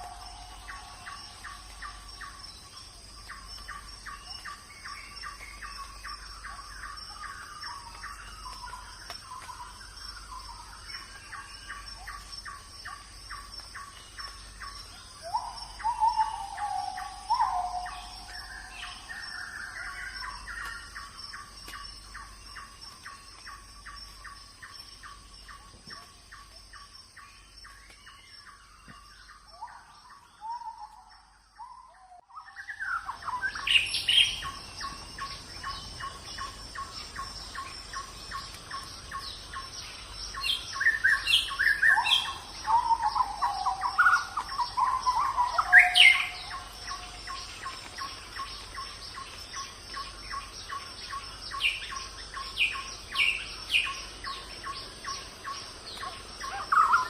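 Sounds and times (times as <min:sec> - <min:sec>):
high insect whine: 0:00.0 - 0:57.0.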